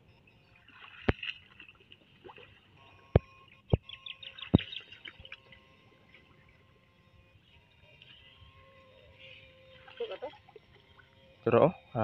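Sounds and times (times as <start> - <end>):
wading through shallow water: 0.1 - 11.9.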